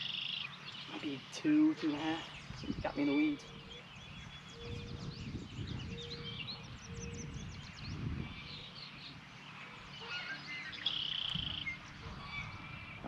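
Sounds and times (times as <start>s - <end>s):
high steady bird trill: 0.0s - 13.0s
songbirds chirping and trilling: 0.0s - 13.0s.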